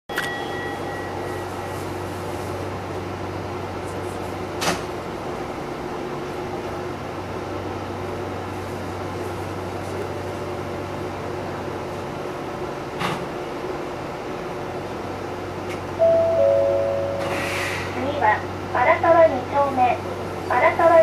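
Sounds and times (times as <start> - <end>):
tram electric hum: 0.1 - 21.0.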